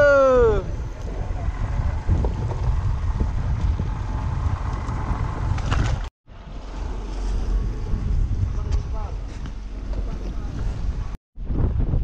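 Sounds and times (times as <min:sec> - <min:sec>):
wind on microphone: 0:00.0 - 0:12.0
boat motor rumbling: 0:00.4 - 0:11.2.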